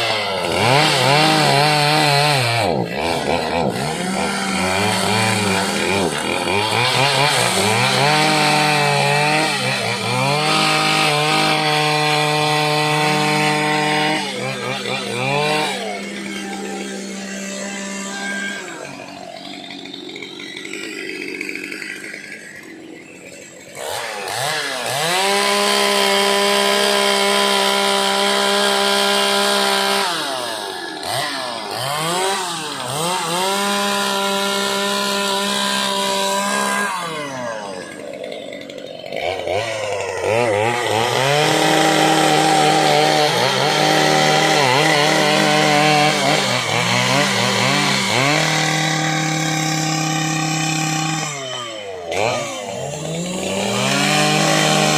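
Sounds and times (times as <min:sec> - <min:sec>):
chainsaw cutting wood: 0:00.0 - 0:54.9
chainsaw revving: 0:00.0 - 0:54.9.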